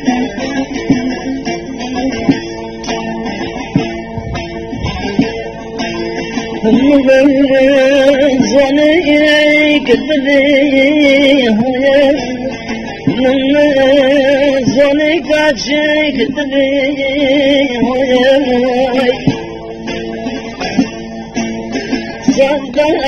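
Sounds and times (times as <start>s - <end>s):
instrumental accompaniment: 0.0s - 23.0s
man singing folk melody: 0.0s - 23.0s.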